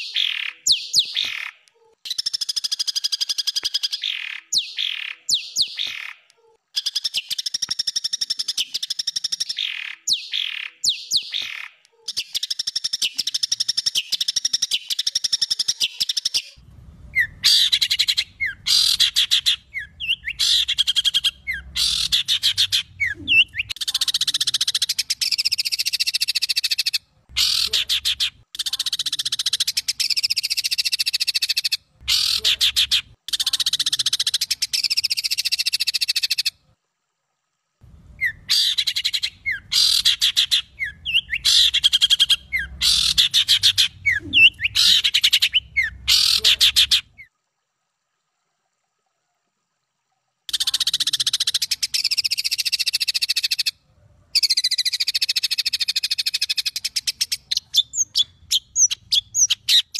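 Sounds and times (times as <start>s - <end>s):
songbird buzzy trilling song: 0.0s - 36.6s, 37.8s - 47.3s, 50.5s - 59.9s.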